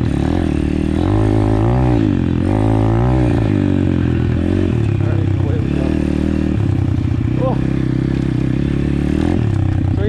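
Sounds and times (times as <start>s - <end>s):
motorbike engine revving: 0.0s - 10.0s.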